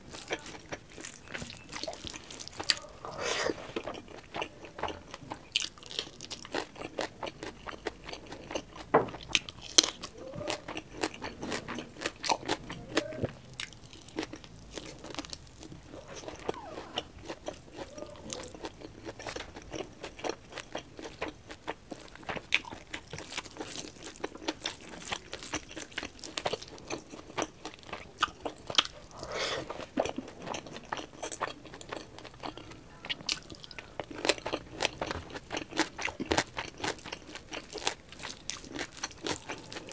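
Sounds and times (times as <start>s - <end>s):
chewing and lip smacking: 0.1s - 39.9s.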